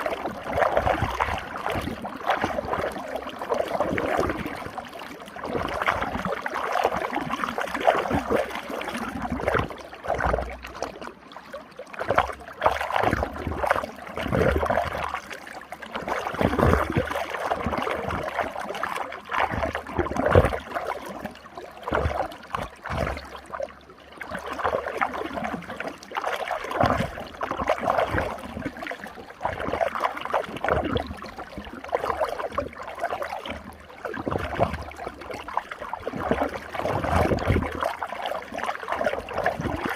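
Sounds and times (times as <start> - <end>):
stream water splashing and gurgling: 0.0 - 39.9.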